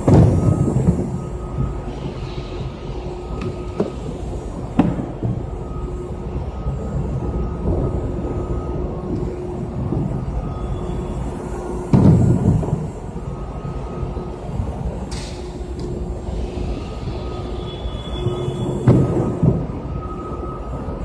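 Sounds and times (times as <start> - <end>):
warehouse truck rumbling on concrete: 0.0 - 21.0.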